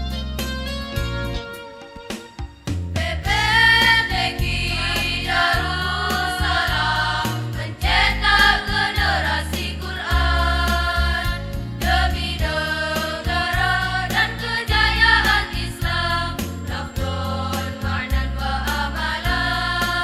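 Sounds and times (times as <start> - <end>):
instrumental accompaniment: 0.0 - 20.0
choir singing an anthem: 3.0 - 20.0.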